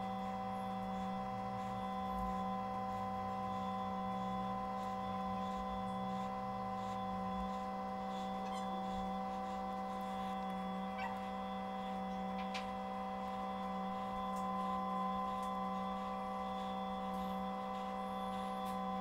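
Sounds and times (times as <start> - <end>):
steady hum of held tones: 0.0 - 19.0.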